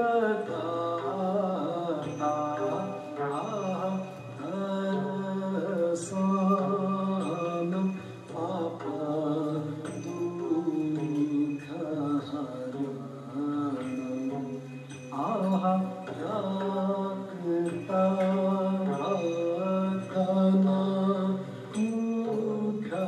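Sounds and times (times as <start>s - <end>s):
person singing a slow chant: 0.0s - 23.0s.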